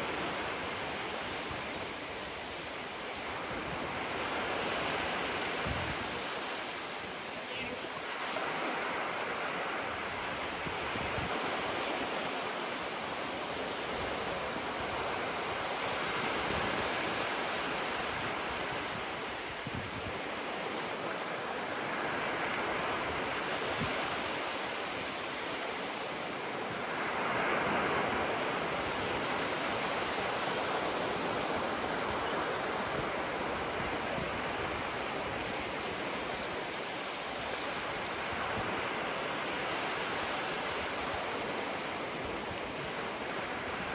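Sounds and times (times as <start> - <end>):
small waves breaking on sand: 0.0 - 43.9.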